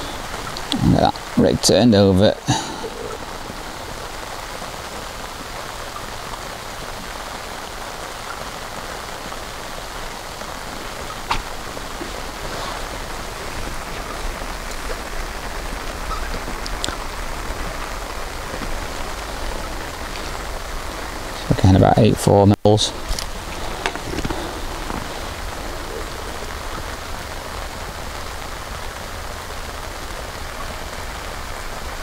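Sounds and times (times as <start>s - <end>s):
rain falling on a lake: 0.0s - 32.0s.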